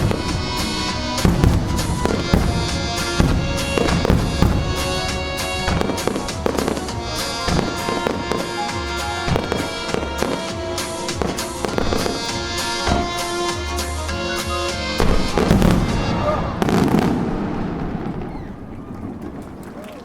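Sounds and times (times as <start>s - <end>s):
music on loudspeakers: 0.0s - 17.2s
fireworks shells bursting: 0.0s - 19.8s.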